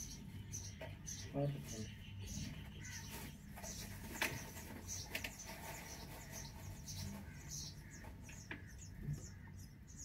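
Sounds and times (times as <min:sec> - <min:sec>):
nestlings begging chirps: 0:00.0 - 0:10.0.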